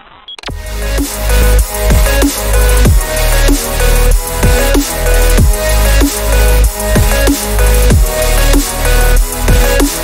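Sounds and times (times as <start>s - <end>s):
electronic music with heavy bass: 0.4s - 10.0s.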